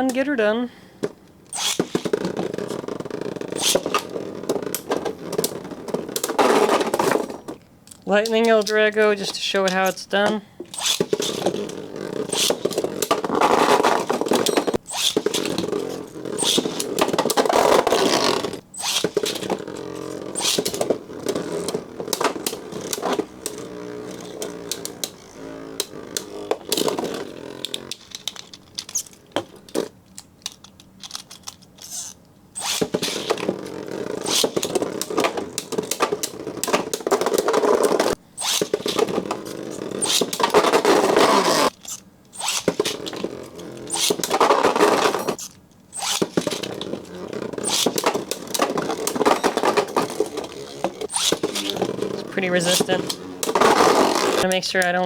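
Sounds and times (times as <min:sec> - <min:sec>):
spinning tops whirring in plastic stadium: 0:01.0 - 0:09.8, 0:10.7 - 0:29.8, 0:31.8 - 0:55.0.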